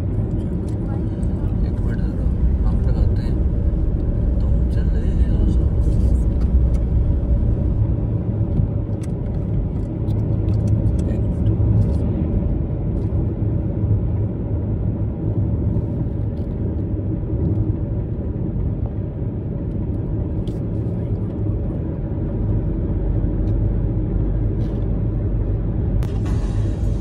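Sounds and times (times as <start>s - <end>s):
car cabin road and engine rumble: 0.0s - 27.0s.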